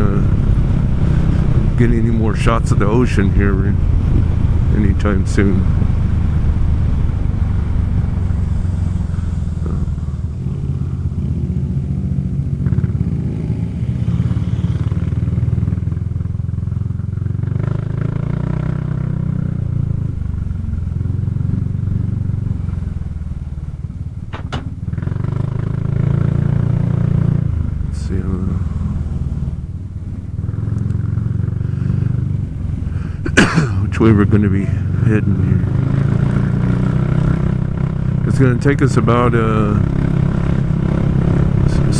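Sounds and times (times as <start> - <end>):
scooter engine drone: 0.0 - 41.9.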